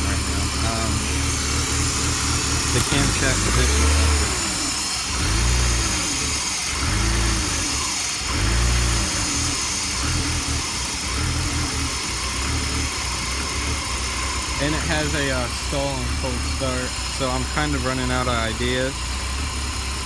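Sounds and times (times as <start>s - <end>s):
car engine idling roughly: 0.0s - 20.0s.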